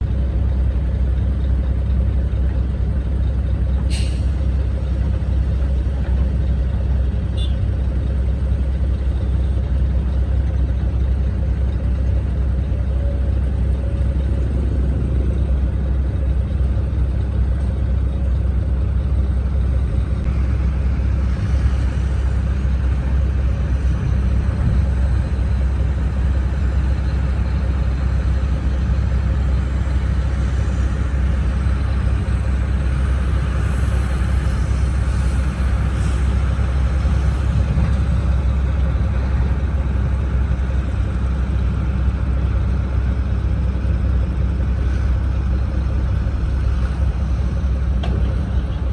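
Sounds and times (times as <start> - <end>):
truck engine rumbling: 0.0 - 48.9.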